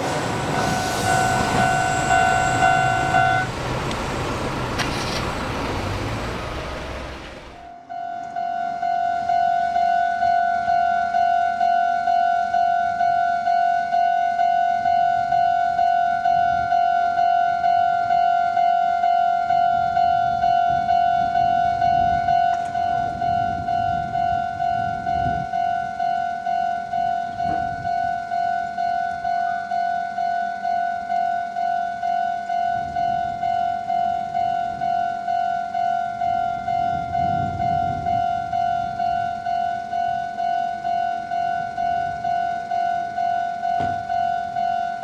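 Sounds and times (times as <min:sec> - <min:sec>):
level crossing warning bell: 0:00.0 - 0:45.0.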